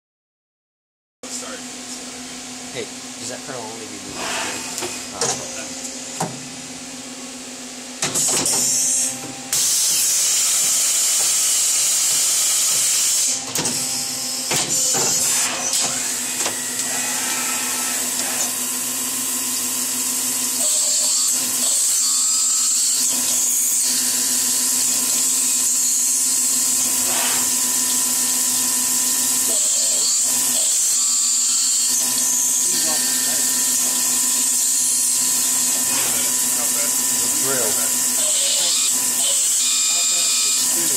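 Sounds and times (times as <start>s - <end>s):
milling machine running: 4.1s - 40.9s.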